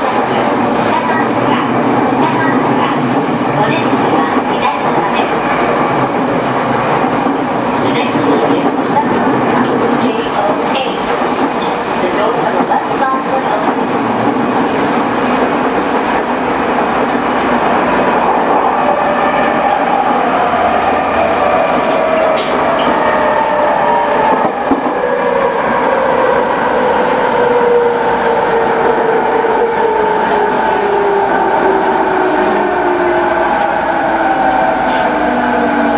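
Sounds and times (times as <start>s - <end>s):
train wheel and rail noise: 0.0s - 35.9s.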